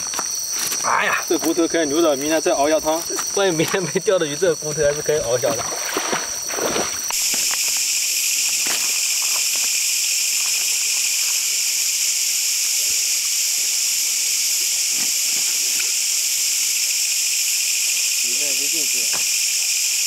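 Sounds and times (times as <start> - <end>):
night insect chorus: 0.0 - 20.0.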